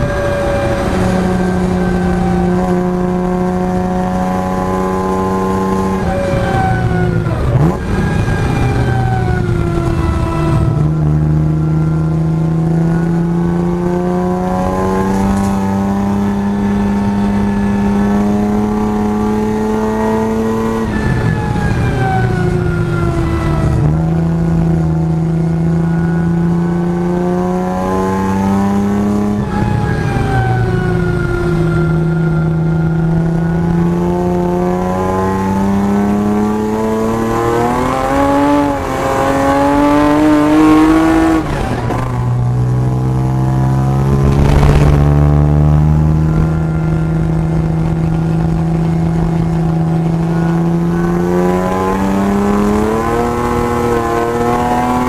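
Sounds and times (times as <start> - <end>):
car engine heard from cabin: 0.0 - 55.0.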